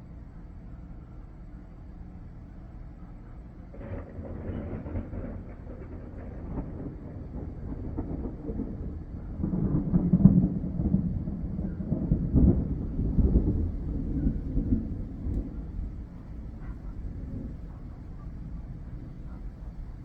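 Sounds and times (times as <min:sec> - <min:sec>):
thunder rumbling: 0:03.6 - 0:20.0.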